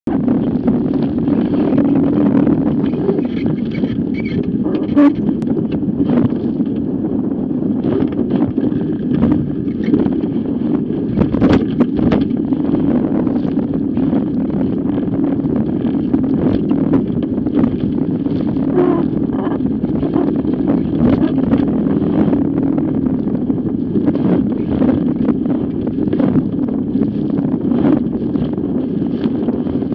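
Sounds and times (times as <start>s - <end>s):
wind buffeting microphone: 0.0s - 29.9s
waves slapping against bow: 0.1s - 29.9s.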